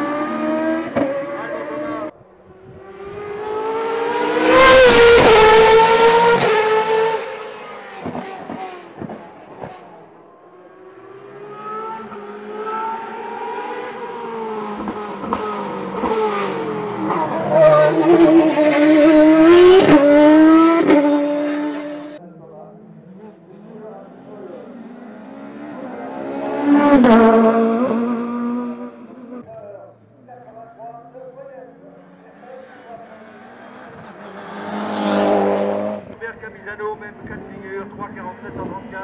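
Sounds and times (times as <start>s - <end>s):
racing car engines at high revs: 0.0s - 22.2s, 22.8s - 29.4s, 31.9s - 39.0s.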